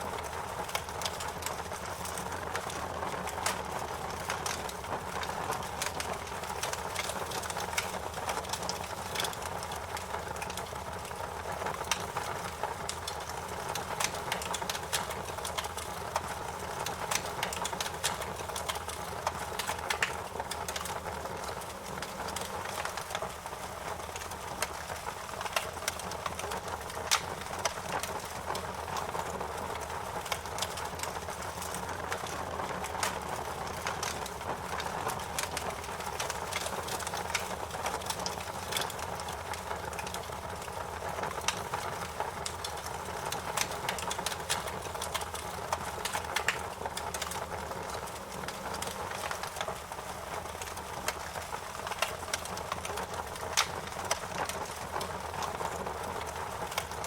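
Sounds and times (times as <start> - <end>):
campfire crackling and popping: 0.0 - 57.0
steady fire hiss: 0.0 - 57.0.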